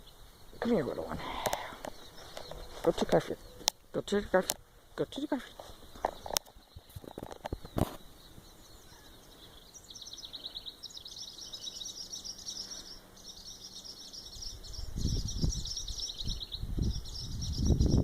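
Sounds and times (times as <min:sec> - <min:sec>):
small birds alarm calls: 0:00.0 - 0:18.0.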